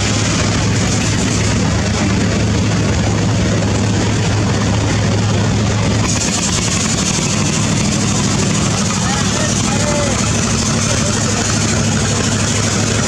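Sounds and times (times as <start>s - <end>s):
boat engine droning: 0.0s - 13.0s
river water splashing against hulls: 0.0s - 13.0s.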